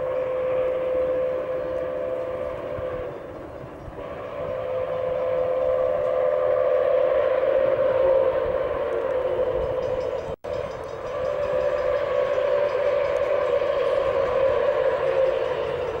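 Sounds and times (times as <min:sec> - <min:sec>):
steam locomotive whistle: 0:00.0 - 0:16.0.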